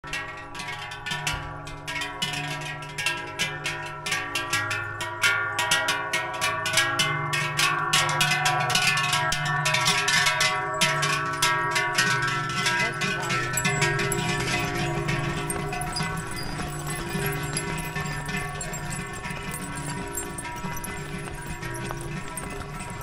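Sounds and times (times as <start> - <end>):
cowbells clanging: 0.1 - 23.0.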